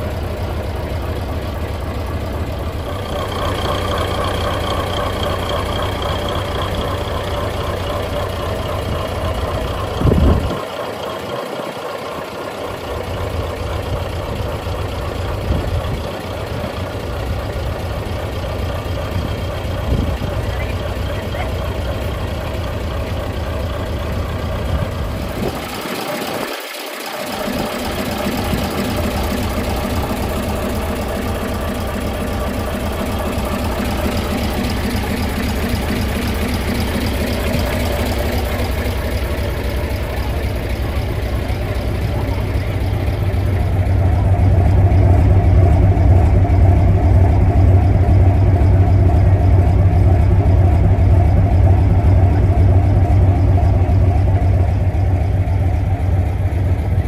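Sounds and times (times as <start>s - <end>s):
truck engine rumbling: 0.0s - 57.0s.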